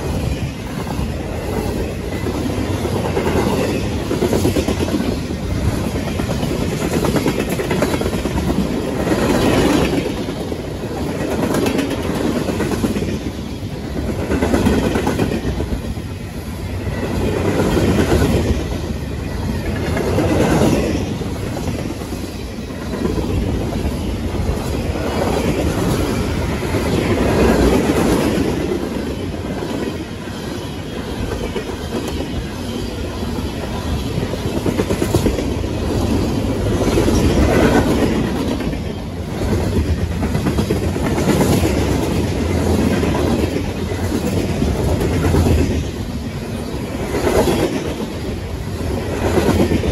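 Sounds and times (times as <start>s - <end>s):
freight train cars rolling past: 0.0s - 49.9s.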